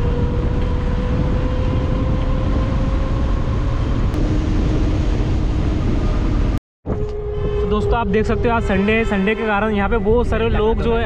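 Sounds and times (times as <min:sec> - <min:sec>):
scooter whine: 0:00.0 - 0:10.2
wind rushing over microphone: 0:00.0 - 0:11.0.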